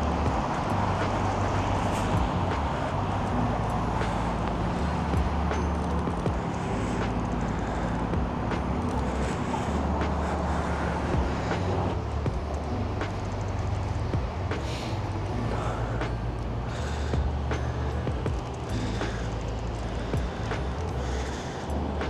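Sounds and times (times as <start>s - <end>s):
background music with bass: 0.0s - 22.0s
city street traffic: 0.0s - 22.0s.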